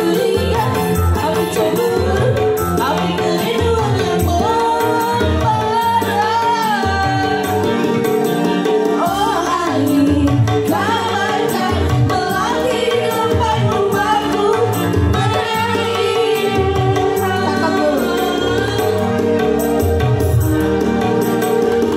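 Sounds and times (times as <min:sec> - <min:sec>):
women singing together: 0:00.0 - 0:07.9, 0:08.8 - 0:19.3
hand drum rhythm: 0:00.0 - 0:21.9
keyboard with bass: 0:00.0 - 0:21.9.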